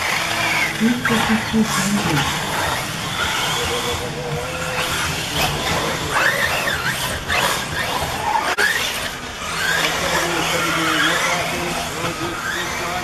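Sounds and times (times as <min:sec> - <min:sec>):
electric toy car motors whining: 0:00.0 - 0:13.0.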